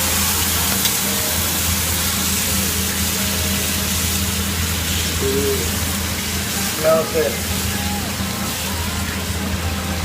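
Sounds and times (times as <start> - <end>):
food sizzling in frying pan: 0.0 - 10.0
low hum: 0.0 - 10.0.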